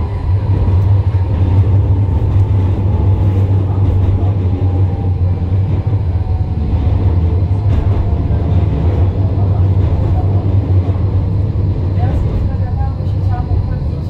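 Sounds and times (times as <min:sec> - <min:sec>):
tram running on track: 0:00.0 - 0:14.0.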